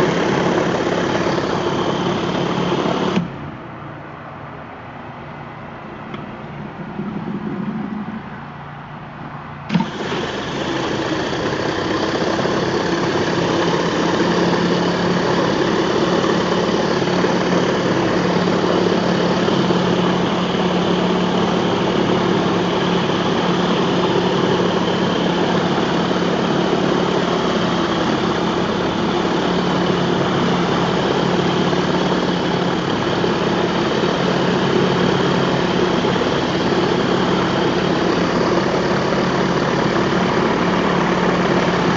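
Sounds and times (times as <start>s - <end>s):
pressure washer engine running: 0.0s - 3.6s, 9.7s - 41.9s.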